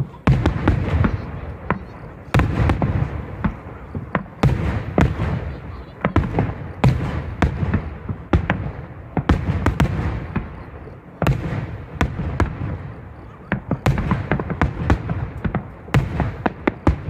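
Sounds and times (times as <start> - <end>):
low rumble of echoing reports: 0.0 - 17.0.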